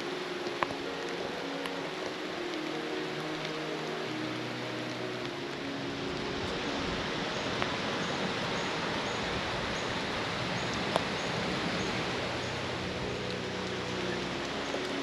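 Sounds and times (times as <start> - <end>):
rain hiss: 0.0 - 15.0
water drips: 0.0 - 15.0.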